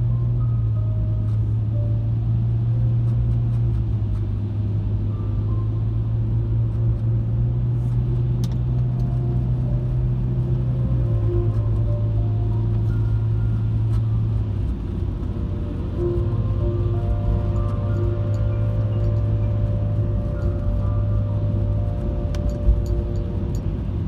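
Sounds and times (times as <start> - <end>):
car engine and tyres on wet road: 0.0 - 24.0.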